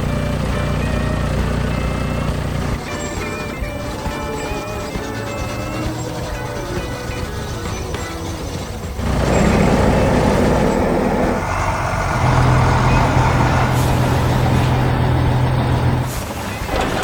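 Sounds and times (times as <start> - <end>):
music: 0.0 - 11.5, 12.2 - 17.0
heavy vehicle engine: 0.0 - 17.0.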